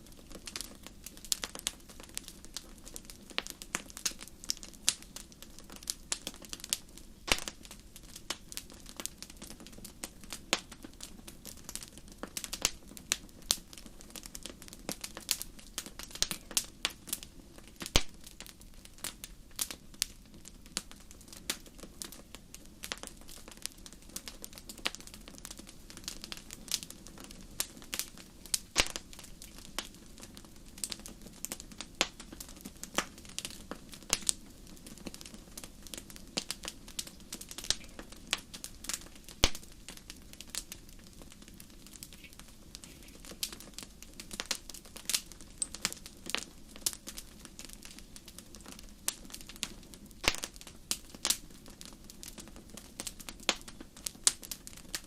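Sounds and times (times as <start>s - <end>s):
fire crackling with pops: 0.0s - 55.0s.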